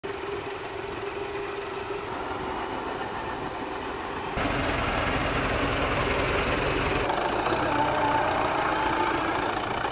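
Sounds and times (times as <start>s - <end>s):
tractor engine running: 0.0s - 9.9s.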